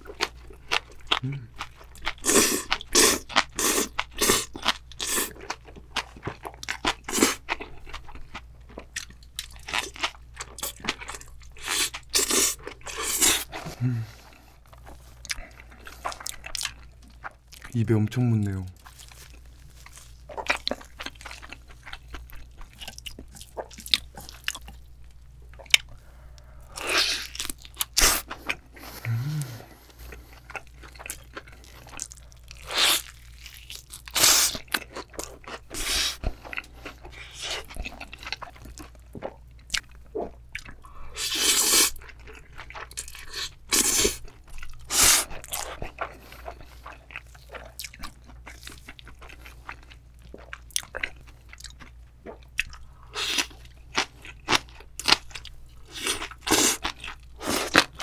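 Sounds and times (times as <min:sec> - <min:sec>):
crunchy bites and chewing: 0:00.0 - 0:13.9, 0:18.8 - 0:24.8, 0:26.7 - 0:29.5, 0:30.1 - 0:58.0.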